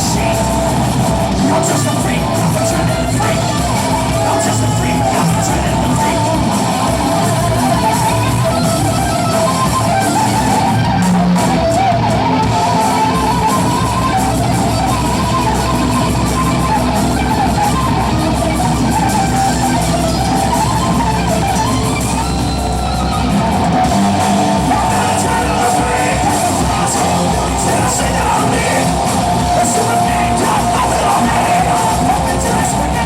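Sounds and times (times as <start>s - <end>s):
distorted electric guitar: 0.0s - 33.0s
rock band playing: 0.0s - 33.0s.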